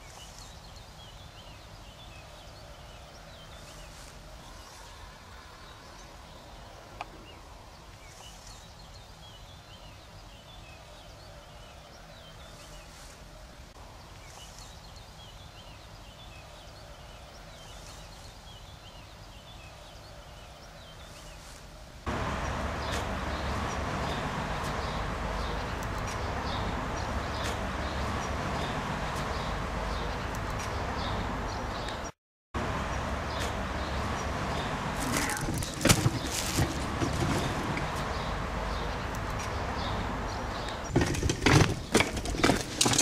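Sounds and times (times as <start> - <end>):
birds chirping: 0.0 - 21.5, 22.1 - 43.0.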